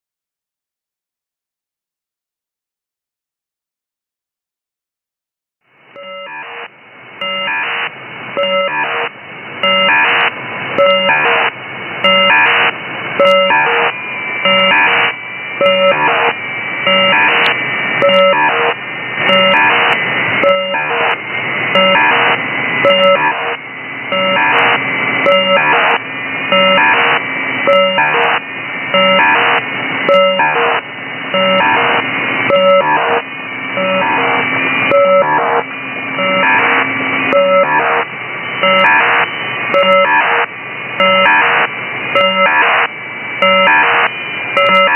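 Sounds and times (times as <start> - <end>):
buzzing radio tones: 6.0 - 44.9
radio static hiss: 6.4 - 44.9.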